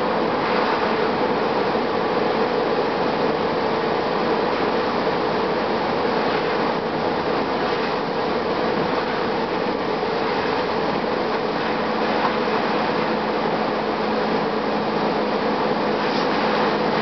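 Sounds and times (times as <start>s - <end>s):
steady drivetrain whine: 0.0s - 17.0s.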